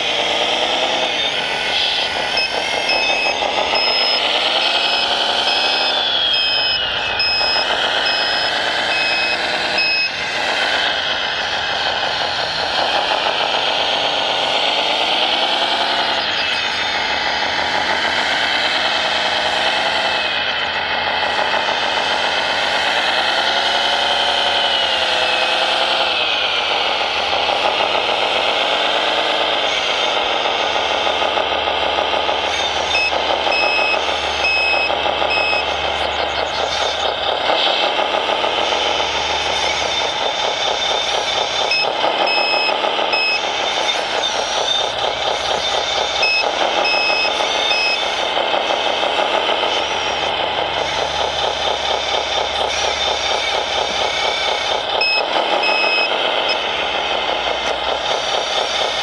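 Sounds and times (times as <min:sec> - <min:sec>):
reversing beeper: 0:00.0 - 0:58.2
simulated diesel engine: 0:00.0 - 0:59.0.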